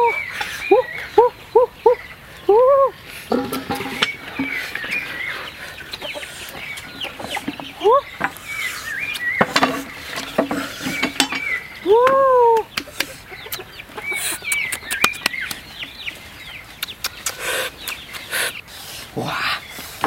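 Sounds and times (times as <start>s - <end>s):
chickens clucking and calling: 0.0s - 20.0s.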